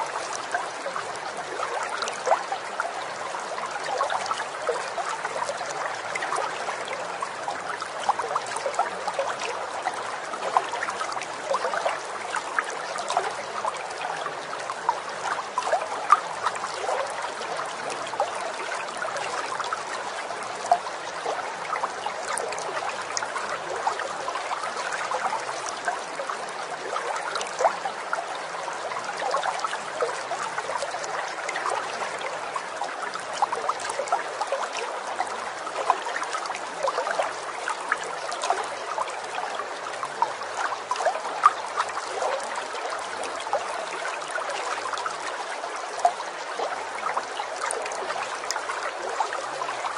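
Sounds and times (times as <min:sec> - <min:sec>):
water trickling and babbling: 0:00.0 - 0:49.9.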